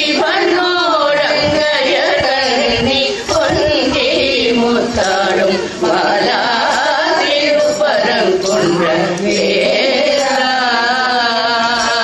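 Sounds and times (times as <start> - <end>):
women singing devotional chant: 0.0 - 12.0.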